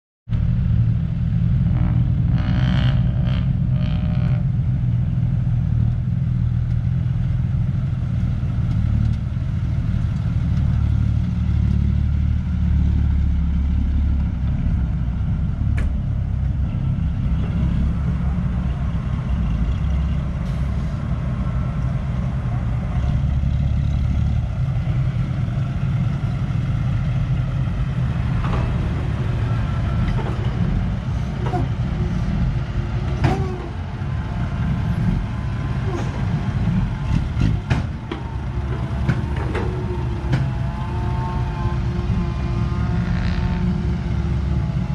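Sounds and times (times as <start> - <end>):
heavy diesel engines rumbling: 0.3 - 44.9.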